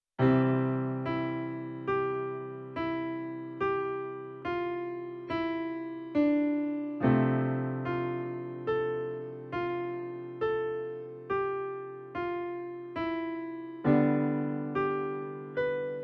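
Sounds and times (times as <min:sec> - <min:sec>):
slow piano-like keyboard melody: 0:00.2 - 0:16.0.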